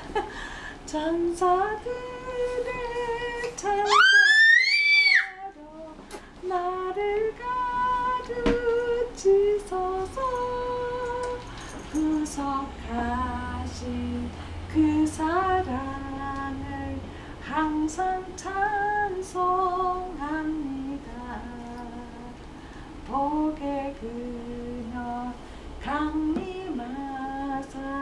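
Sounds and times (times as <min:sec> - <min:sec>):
woman singing: 0:00.8 - 0:22.4, 0:23.0 - 0:28.0.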